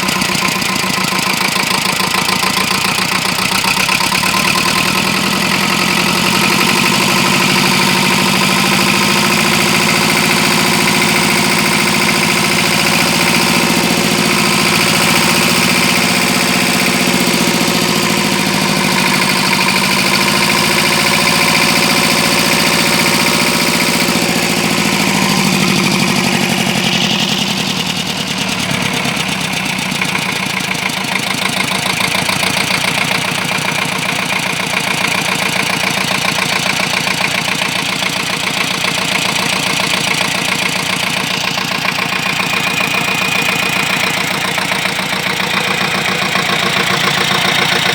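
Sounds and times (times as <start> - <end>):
engine running and idling: 0.0 - 47.9.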